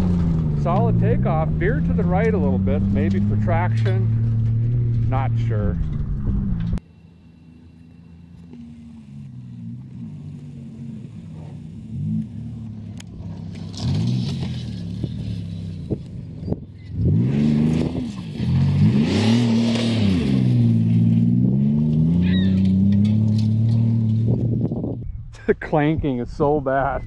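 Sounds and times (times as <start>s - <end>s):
race car engine revving: 0.0s - 6.8s, 7.5s - 25.0s.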